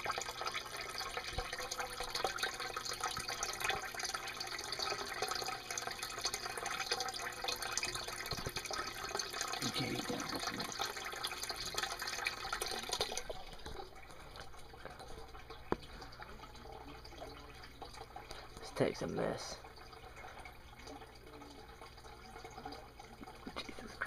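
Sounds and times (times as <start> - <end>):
water trickling and bubbling: 0.0 - 24.0.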